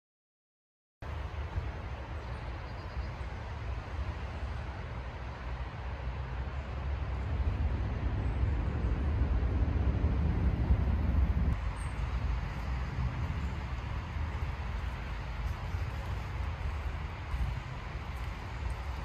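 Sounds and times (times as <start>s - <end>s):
low outdoor rumble: 1.0s - 19.0s.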